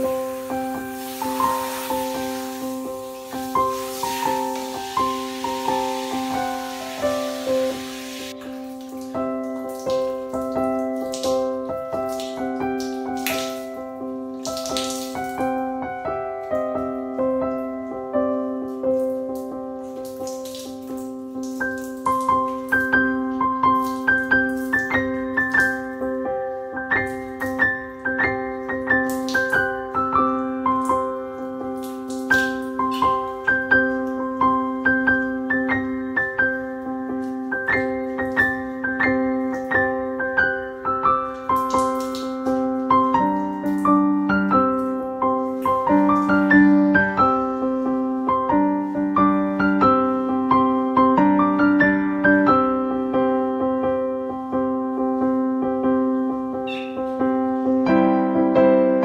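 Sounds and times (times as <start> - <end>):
light piano melody: 0.0 - 59.0.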